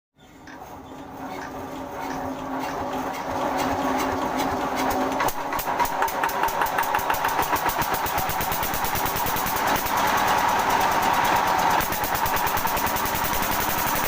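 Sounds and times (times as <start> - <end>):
diesel engine running: 0.6 - 14.0
engine knocking: 1.3 - 14.0.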